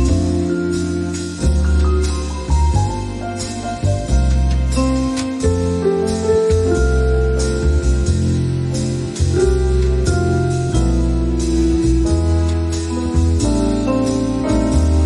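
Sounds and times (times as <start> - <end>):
held keyboard notes: 0.0 - 15.0
pulsing bass beat: 0.0 - 15.0.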